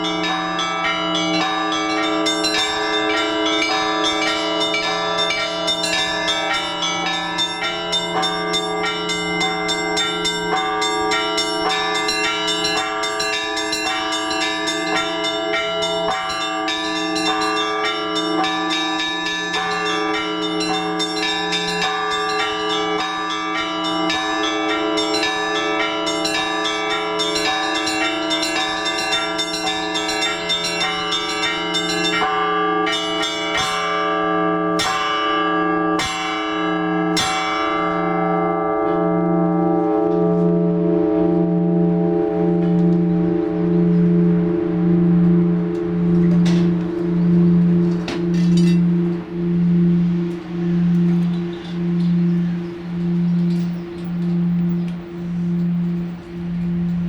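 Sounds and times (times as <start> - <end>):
deep large bells ringing: 0.0 - 57.0.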